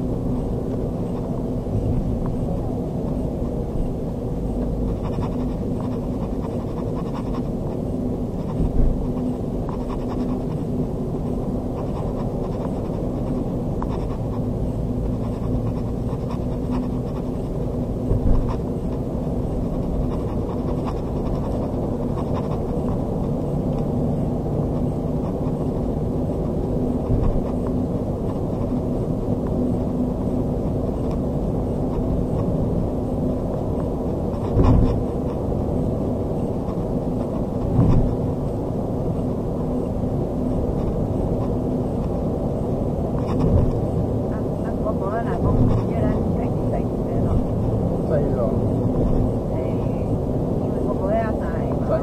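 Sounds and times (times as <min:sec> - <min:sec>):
road and engine noise in car: 0:00.0 - 0:52.0.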